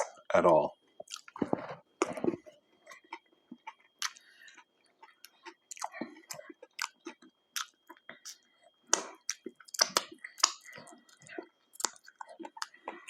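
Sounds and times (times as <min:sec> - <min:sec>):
chewing mouth clicks and smacks: 0:01.0 - 0:13.0.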